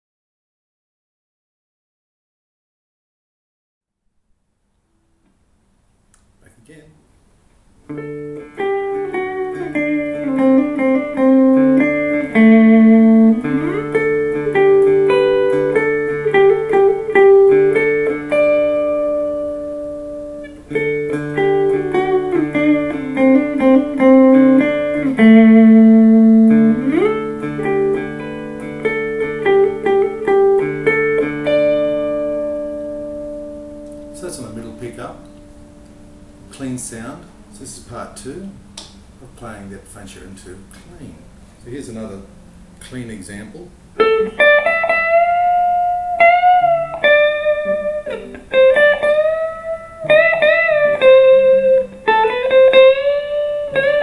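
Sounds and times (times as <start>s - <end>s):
clean electric guitar: 7.8s - 39.3s, 40.6s - 54.0s.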